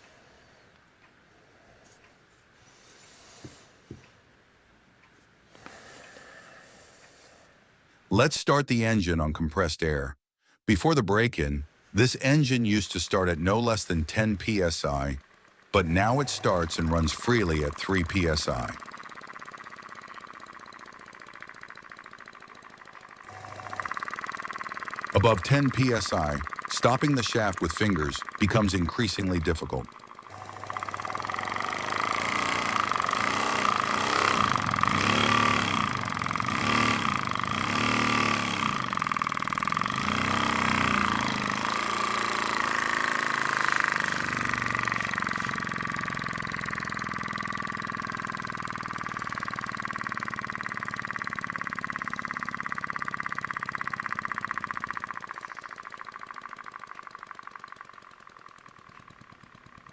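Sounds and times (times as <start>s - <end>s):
model steam engine exhaust puffs: 0.0s - 4.2s, 5.4s - 8.1s, 12.8s - 59.9s.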